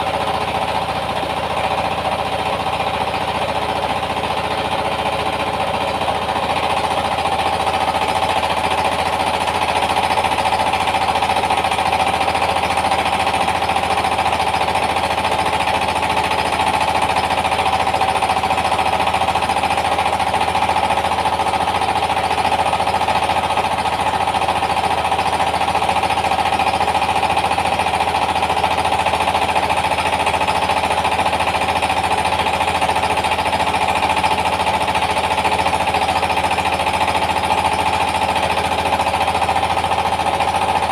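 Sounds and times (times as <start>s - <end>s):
diesel engine knocking: 0.0s - 40.9s
rice milling machine: 0.0s - 40.9s.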